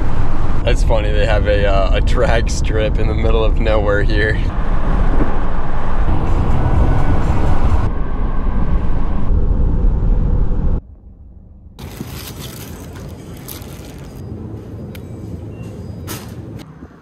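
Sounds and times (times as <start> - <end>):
car road and engine rumble: 0.0 - 17.0
outdoor ambience: 0.0 - 17.0.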